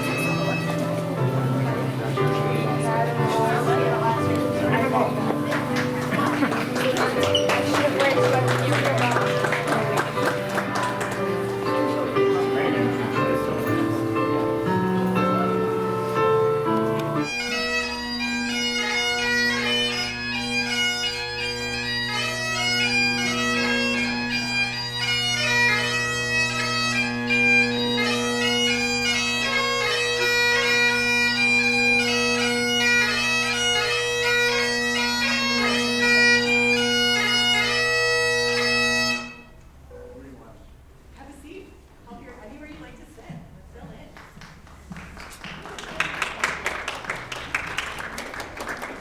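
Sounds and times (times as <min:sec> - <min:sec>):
bagpipes playing tune: 0:00.0 - 0:39.6.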